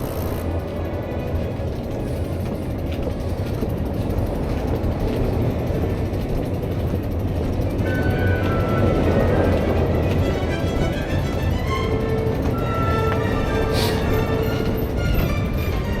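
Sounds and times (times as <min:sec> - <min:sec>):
bicycle road noise: 0:00.0 - 0:16.0
wind rumble on microphone: 0:00.0 - 0:16.0.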